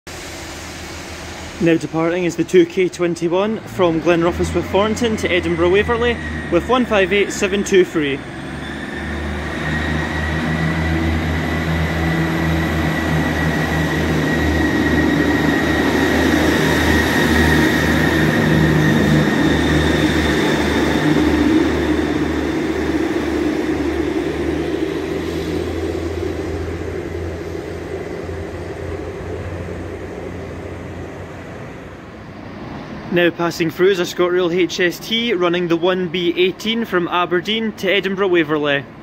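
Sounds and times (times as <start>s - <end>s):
high whine of train: 0.0s - 39.0s
diesel train engines running: 0.1s - 39.0s.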